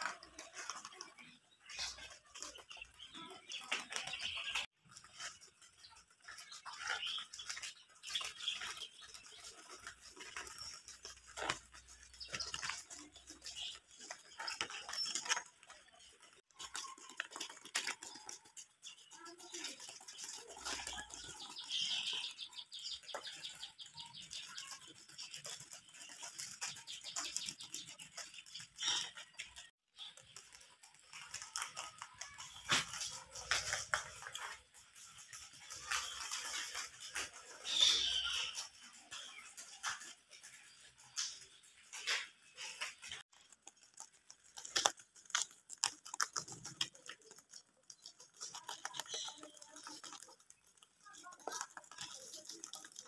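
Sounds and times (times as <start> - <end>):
rabbits munching leaves: 0.0 - 53.0.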